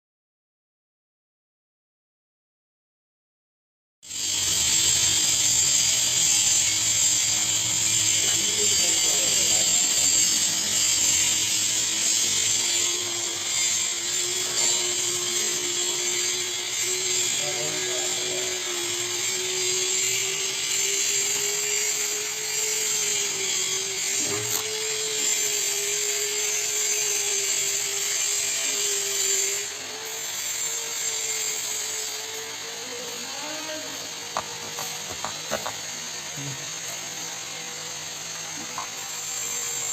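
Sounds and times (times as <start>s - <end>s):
drywall sander motor hum: 4.1s - 39.9s.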